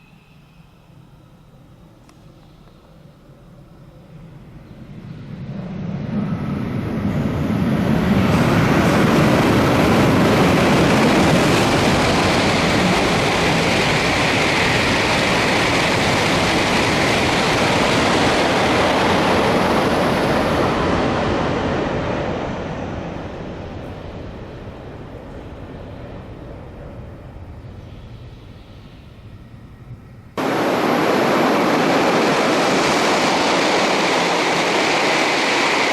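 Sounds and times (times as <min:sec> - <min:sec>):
bullet train passing at speed: 0:00.0 - 0:35.9.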